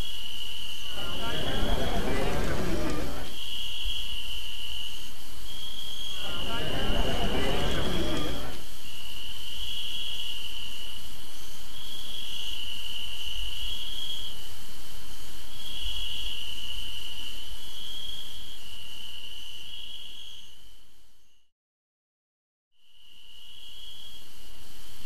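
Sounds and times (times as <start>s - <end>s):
crickets trilling: 0.0s - 21.4s, 22.8s - 25.0s.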